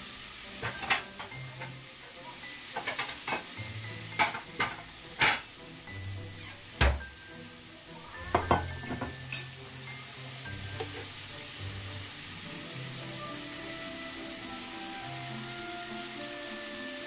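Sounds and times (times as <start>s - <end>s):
hot dogs sizzling in a skillet: 0.0s - 17.0s.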